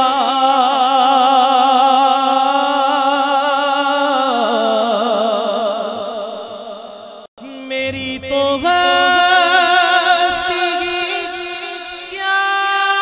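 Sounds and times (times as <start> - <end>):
man singing unaccompanied: 0.0 - 6.1, 7.4 - 13.0.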